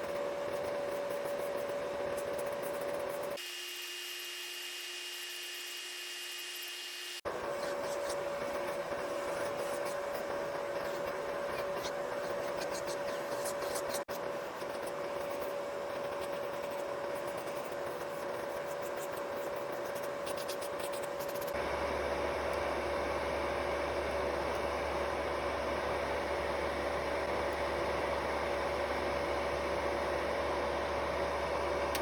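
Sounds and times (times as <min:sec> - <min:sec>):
nail-care machine whining: 0:00.0 - 0:32.0.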